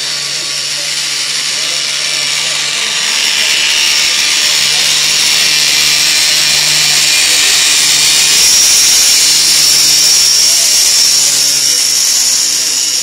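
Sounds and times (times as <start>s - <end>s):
small engine whining: 0.0s - 13.0s.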